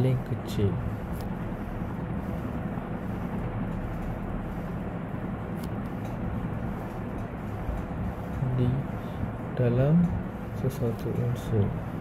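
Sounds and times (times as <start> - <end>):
low background rumble and hum: 0.0 - 12.0.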